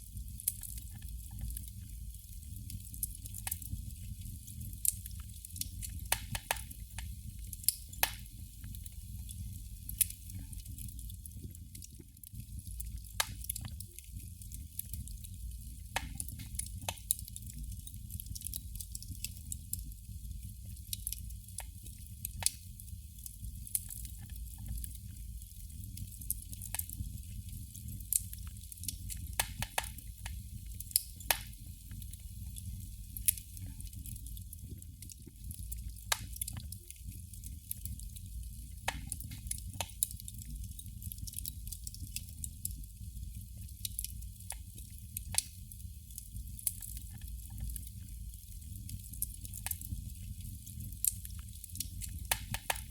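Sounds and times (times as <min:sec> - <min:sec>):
candle flame crackling: 0:00.0 - 0:52.9
low rumble and hiss: 0:00.0 - 0:52.9.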